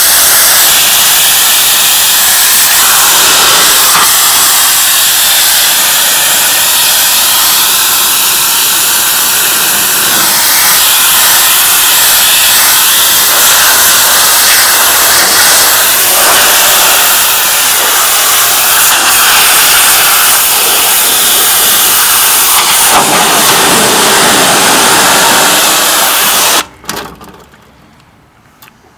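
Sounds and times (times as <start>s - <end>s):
pressure washer spraying: 0.0s - 26.7s.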